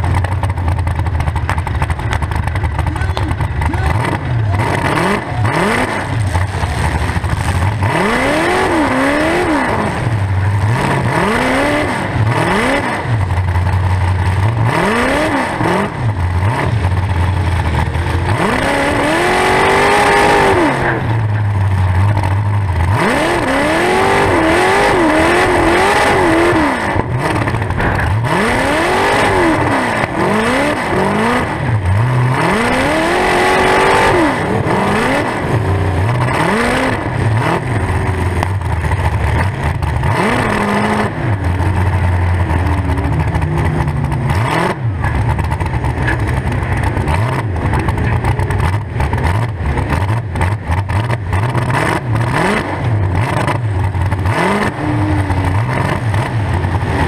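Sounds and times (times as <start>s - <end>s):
unmuffled car engine revving: 0.0s - 57.0s.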